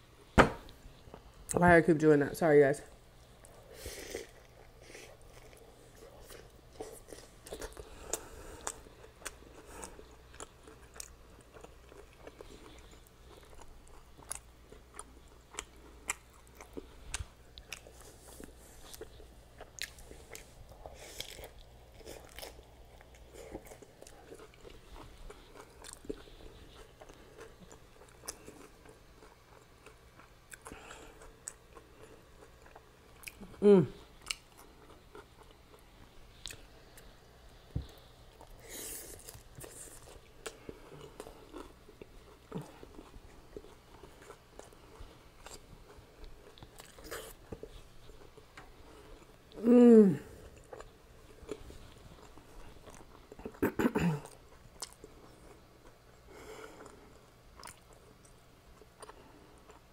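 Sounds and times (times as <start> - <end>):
person chewing: 3.3 - 37.1, 37.7 - 59.9.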